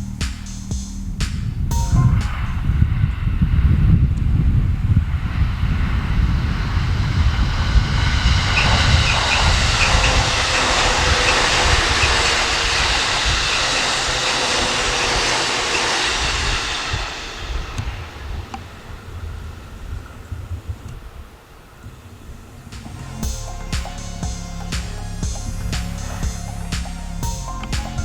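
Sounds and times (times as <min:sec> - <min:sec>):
wind rumble on microphone: 0:00.0 - 0:23.4
electric train passing: 0:00.0 - 0:28.0.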